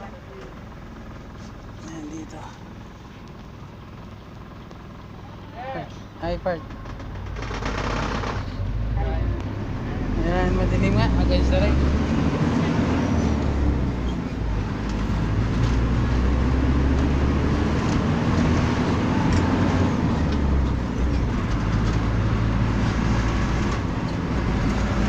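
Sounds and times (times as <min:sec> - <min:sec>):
road noise: 0:00.0 - 0:25.0
vehicle engine running: 0:00.0 - 0:25.0.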